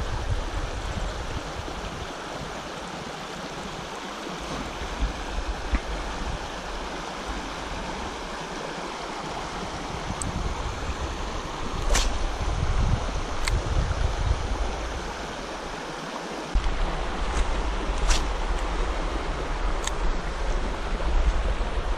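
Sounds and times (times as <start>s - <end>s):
creek rushing over rocks: 0.0s - 21.9s.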